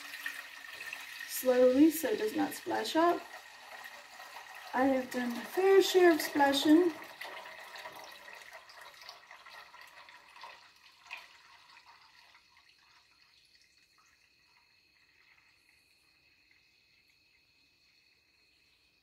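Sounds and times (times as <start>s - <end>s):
milk trickling into a metal pot: 0.0s - 19.0s.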